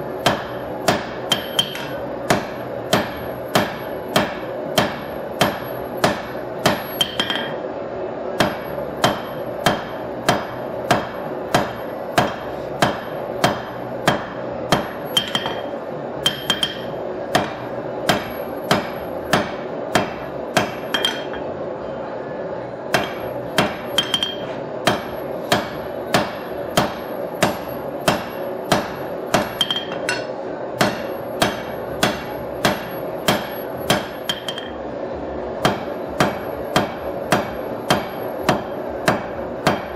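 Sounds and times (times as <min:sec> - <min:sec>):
hammer striking steel on anvil: 0:00.2 - 0:07.6, 0:08.4 - 0:21.5, 0:22.9 - 0:34.8, 0:35.6 - 0:39.9.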